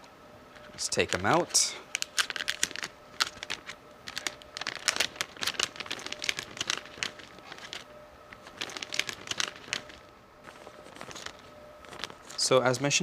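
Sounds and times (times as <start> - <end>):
plastic bag crinkling: 0.6 - 12.8.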